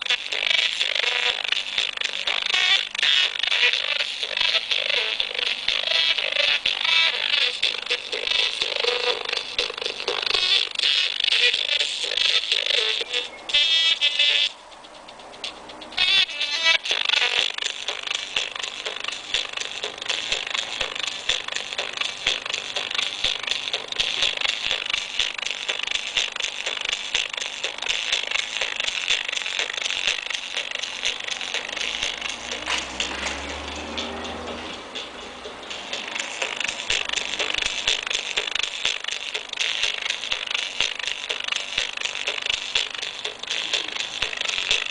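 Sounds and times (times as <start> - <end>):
amplifier speaker hiss with crackling: 0.0 - 44.9.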